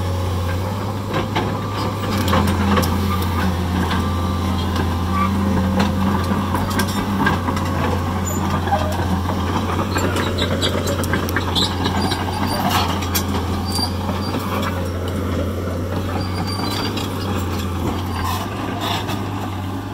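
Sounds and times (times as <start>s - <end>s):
diesel engine humming: 0.0s - 19.9s
steel tracks clanking and squeaking: 1.1s - 19.9s.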